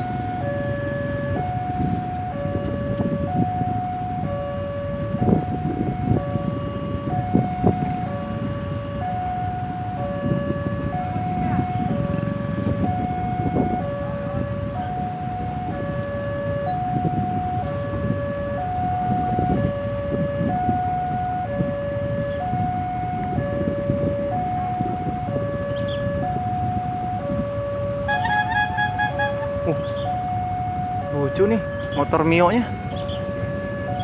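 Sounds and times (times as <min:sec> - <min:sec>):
road traffic rumble: 0:00.0 - 0:34.0
two-tone crossing alarm: 0:00.0 - 0:34.0.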